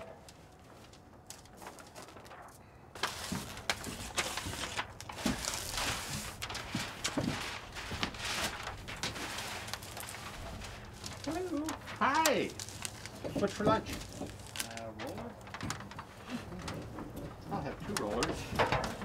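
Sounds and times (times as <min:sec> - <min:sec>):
paper backing crinkling: 0:00.0 - 0:19.0
tape being peeled: 0:00.1 - 0:17.3.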